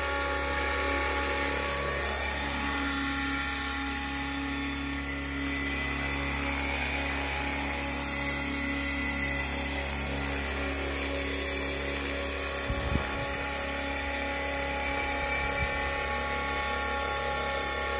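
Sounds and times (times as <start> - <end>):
electric motor whine: 0.0 - 17.9
helicopter rotor whirring: 0.0 - 17.9.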